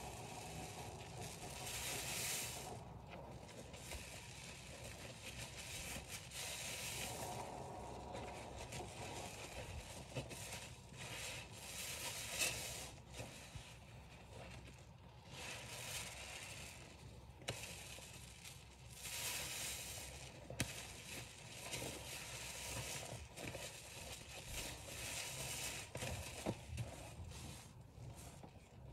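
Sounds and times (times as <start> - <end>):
foam crackling: 0.0 - 28.9.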